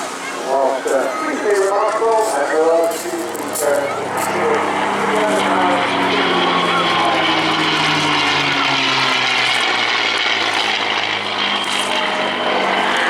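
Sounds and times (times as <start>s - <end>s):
propeller plane flying past: 1.9s - 13.0s.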